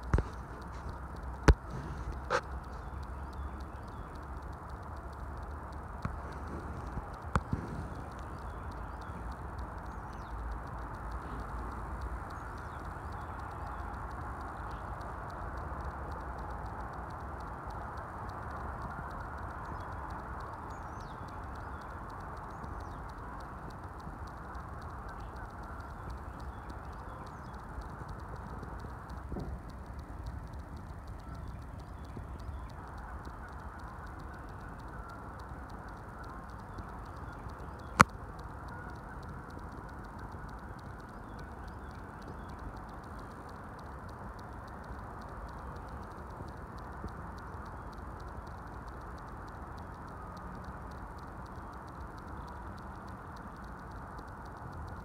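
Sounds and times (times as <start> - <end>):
bird chirps and ticking calls: 0.0 - 55.0
low background rush: 0.0 - 55.0.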